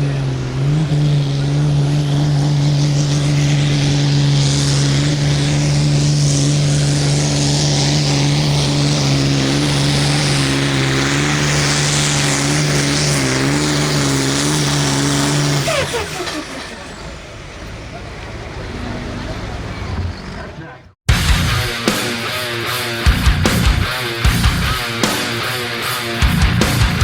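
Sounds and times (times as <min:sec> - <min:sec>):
tractor diesel engine at full throttle: 0:00.0 - 0:27.0.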